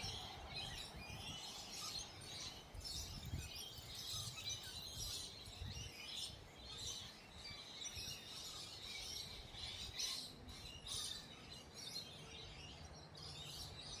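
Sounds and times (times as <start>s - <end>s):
birds chirping and calling: 0.0s - 14.0s.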